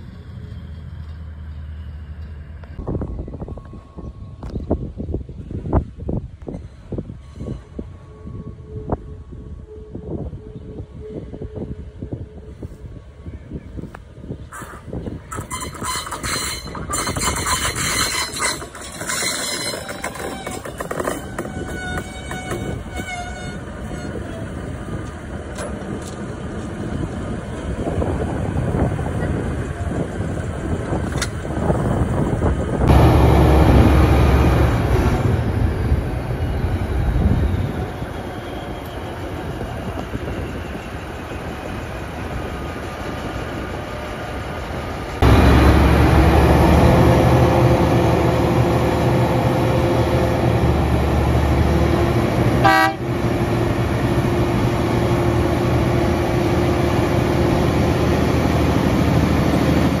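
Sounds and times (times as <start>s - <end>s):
diesel locomotive engine throbbing: 6.9s - 60.0s.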